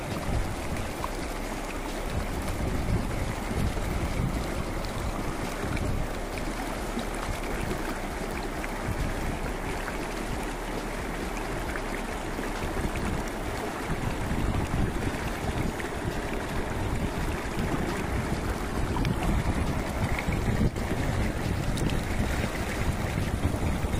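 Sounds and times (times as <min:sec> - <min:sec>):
low rumble: 0:00.0 - 0:23.9
river water rushing: 0:00.0 - 0:23.9.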